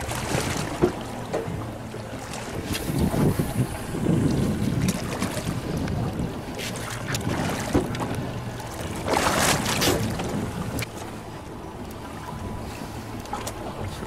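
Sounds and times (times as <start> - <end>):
boat engine running: 0.0 - 14.0
water rushing: 0.0 - 14.0
wind: 0.0 - 14.0.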